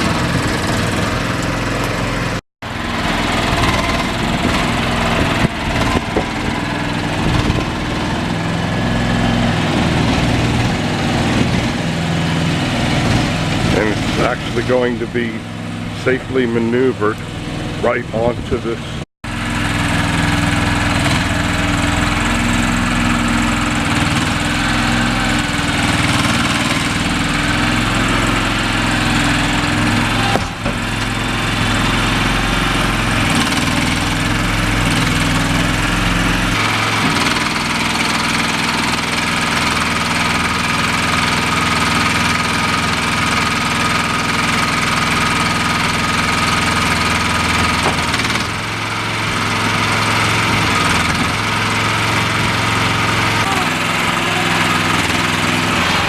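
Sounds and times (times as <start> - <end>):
engine rumbling: 0.0 - 56.0.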